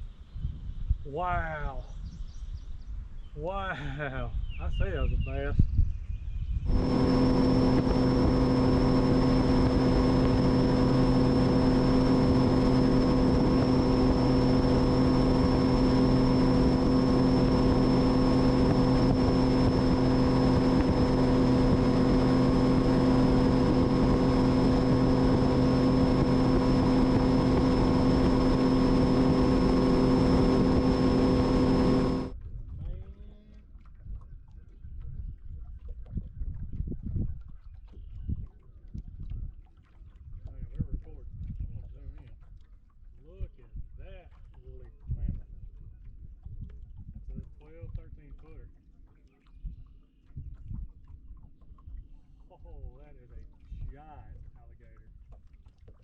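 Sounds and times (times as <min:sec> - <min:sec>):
wind rushing over microphone: 0:00.0 - 0:33.4, 0:34.0 - 0:39.6, 0:40.2 - 0:42.3, 0:43.3 - 0:48.4
outboard motor running: 0:06.6 - 0:56.0.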